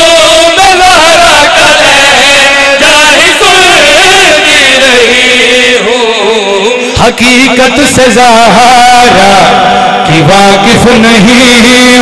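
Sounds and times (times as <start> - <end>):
man chanting devotional poetry: 0.0 - 12.0.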